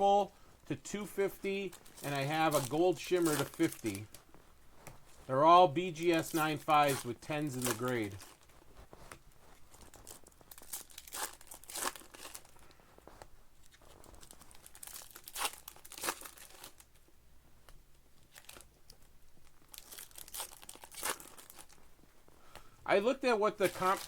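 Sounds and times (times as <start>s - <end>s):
card pack wrappers crinkling: 1.0s - 12.8s, 13.6s - 16.9s, 18.2s - 22.0s, 22.9s - 24.0s.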